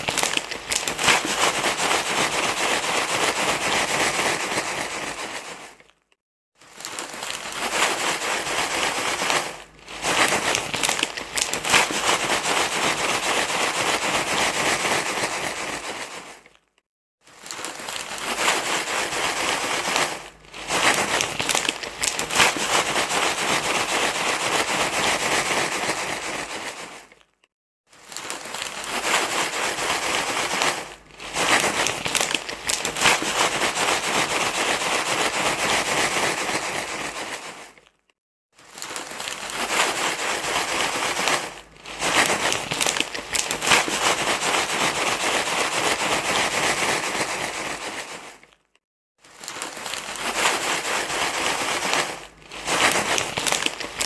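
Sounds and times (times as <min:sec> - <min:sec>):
dense crinkly rustling: 0:00.0 - 0:06.0, 0:06.6 - 0:38.0, 0:38.6 - 0:54.0.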